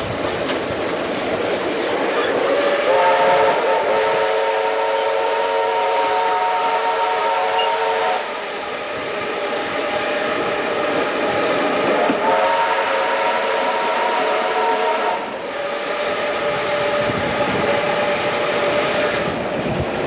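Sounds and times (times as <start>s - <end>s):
steam train rumble: 0.0s - 20.0s
steam locomotive whistle: 2.1s - 19.4s.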